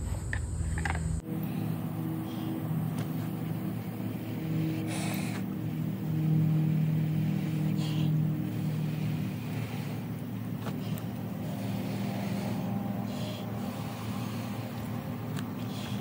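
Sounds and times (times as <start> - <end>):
steady low drone: 0.0 - 16.0.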